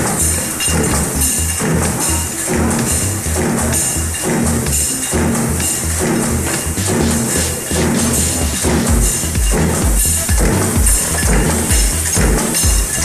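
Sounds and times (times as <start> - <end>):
fast-beat background music: 0.0 - 13.0.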